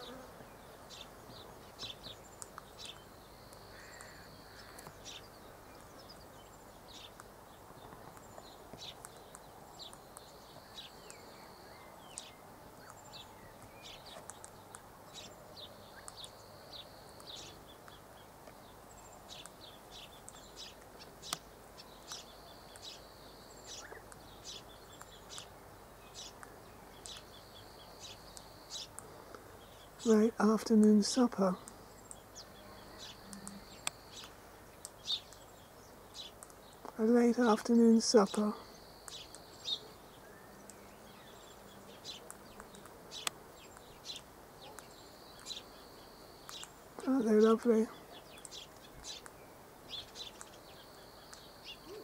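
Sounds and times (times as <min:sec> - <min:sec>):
bird chirps: 0:07.8 - 0:29.0, 0:29.6 - 0:52.0.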